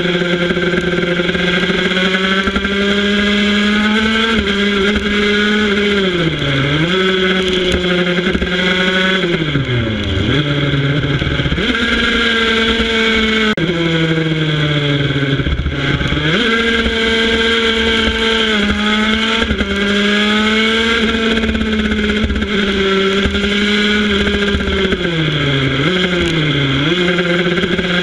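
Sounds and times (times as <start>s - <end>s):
racing motorcycle engine revving: 0.0s - 28.0s.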